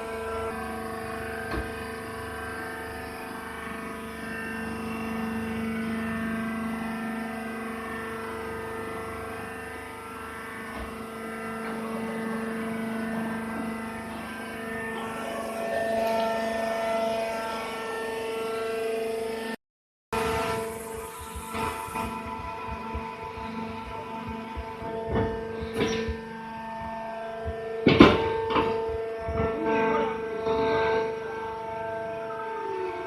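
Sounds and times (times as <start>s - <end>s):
hydraulic press motor whining: 0.0s - 19.6s, 20.2s - 33.0s.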